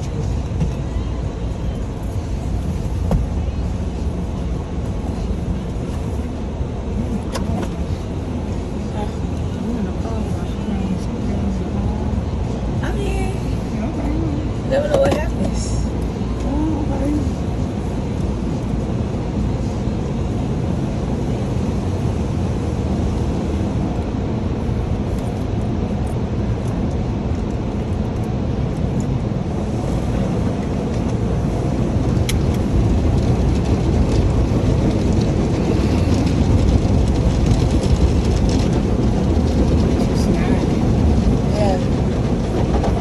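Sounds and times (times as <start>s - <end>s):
car wash water spray and machinery: 0.0s - 43.0s.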